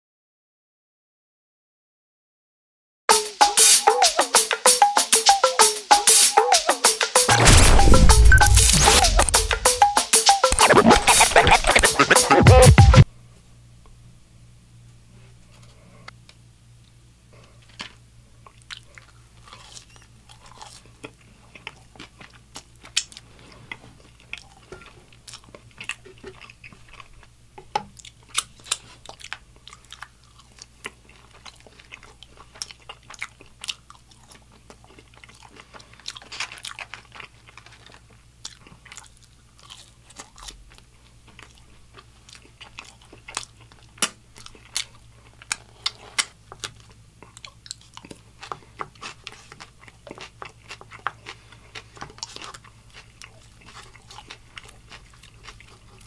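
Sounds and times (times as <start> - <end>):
chewing crunchy fries: 8.2 - 12.8, 15.2 - 56.0.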